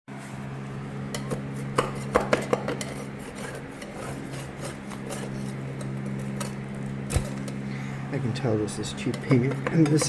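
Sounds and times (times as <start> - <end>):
steady low hum: 0.1 - 10.0.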